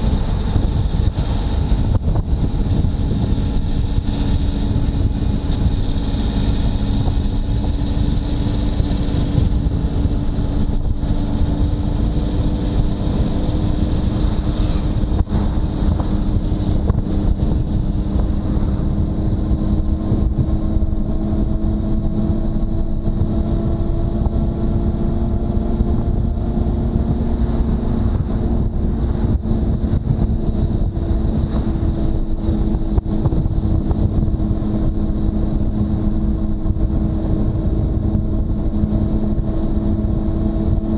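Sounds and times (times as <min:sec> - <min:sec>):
motorcycle engine cruising: 0:00.0 - 0:40.9
wind rumble: 0:00.0 - 0:40.9.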